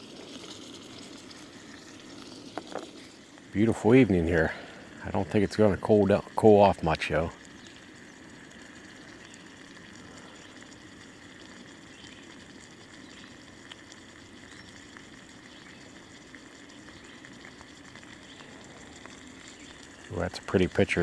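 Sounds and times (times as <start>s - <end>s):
food sizzling in a frying pan: 0.0s - 21.0s
oil crackles: 0.0s - 21.0s.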